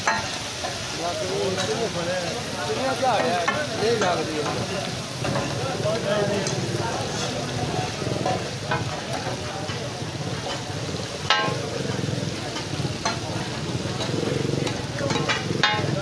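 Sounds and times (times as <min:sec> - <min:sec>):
chicken sizzling on griddle: 0:00.0 - 0:16.0.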